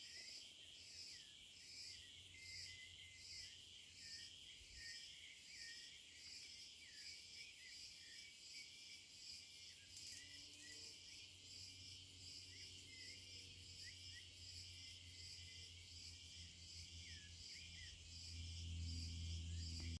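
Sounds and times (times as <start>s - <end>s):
pulsing insect chirring: 0.2s - 20.0s.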